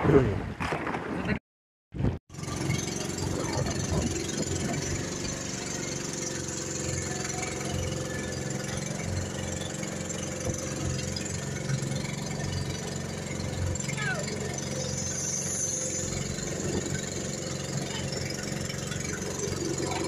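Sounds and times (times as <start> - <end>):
boat engine humming: 2.3 - 20.0.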